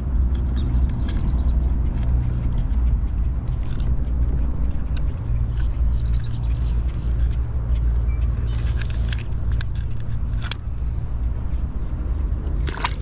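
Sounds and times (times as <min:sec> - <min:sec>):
small clicks and rattles: 0:00.0 - 0:10.7.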